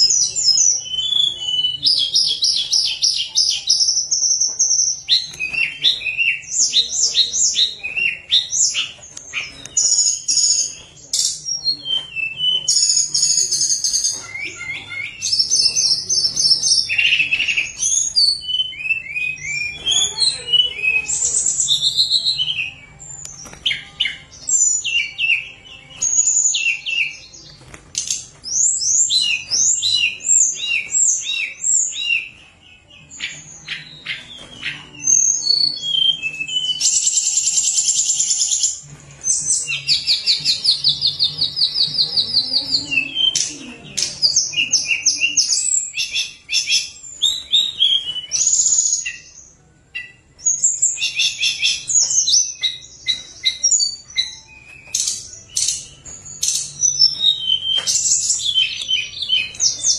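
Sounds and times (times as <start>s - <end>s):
bird singing whistled trills: 0.0s - 59.9s.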